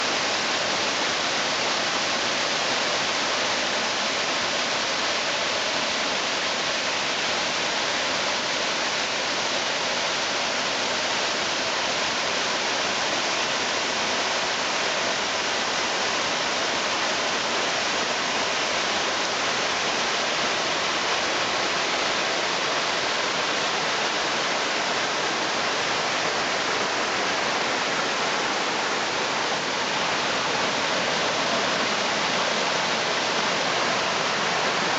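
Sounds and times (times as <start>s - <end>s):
rushing stream water roaring: 0.0s - 34.9s.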